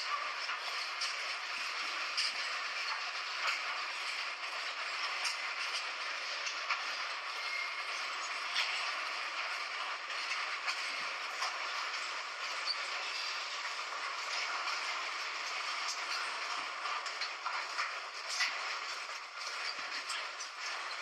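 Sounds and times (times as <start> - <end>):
train running: 0.0 - 21.0.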